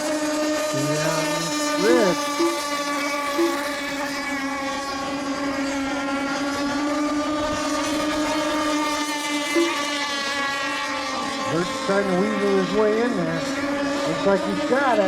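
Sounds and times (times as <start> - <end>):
high-pitched model boat engines: 0.0 - 15.0.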